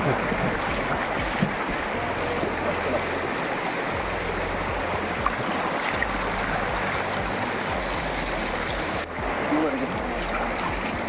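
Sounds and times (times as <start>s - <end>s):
flowing canal water: 0.0s - 11.0s.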